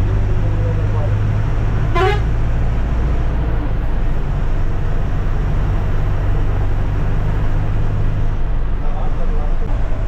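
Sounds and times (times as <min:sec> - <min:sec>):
bus engine droning: 0:00.0 - 0:10.0
road noise: 0:00.0 - 0:10.0.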